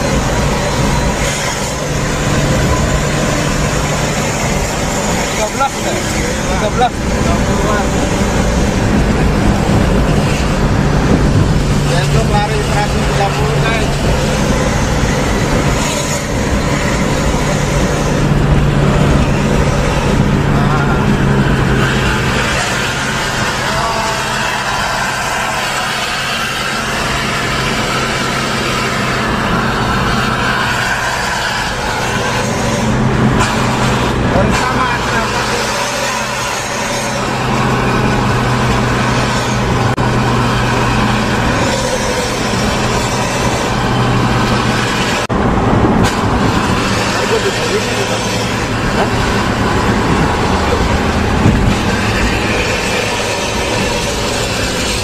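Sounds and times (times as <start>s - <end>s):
car engine drone: 0.0s - 55.0s
tyre and wind road noise: 0.0s - 55.0s.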